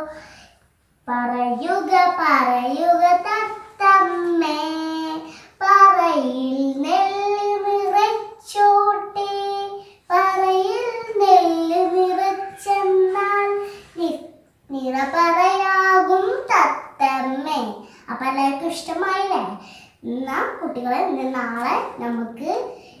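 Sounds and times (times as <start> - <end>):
girl singing: 0.0 - 0.4, 1.0 - 23.0.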